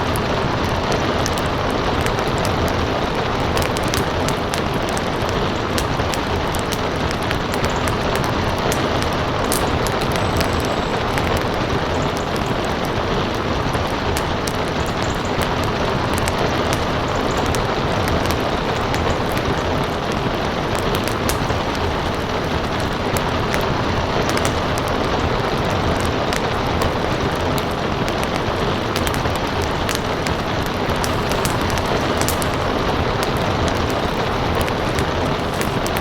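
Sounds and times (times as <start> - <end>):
rain hiss: 0.0 - 36.0
wood fire crackling: 0.0 - 36.0.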